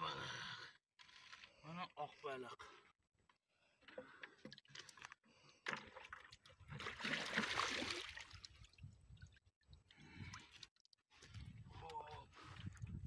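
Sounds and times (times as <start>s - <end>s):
water splashing and sloshing: 1.0s - 13.0s.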